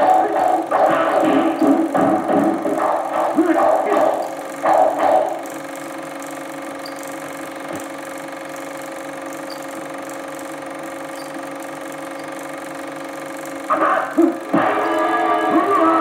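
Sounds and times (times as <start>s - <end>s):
film projector humming: 0.0s - 16.0s.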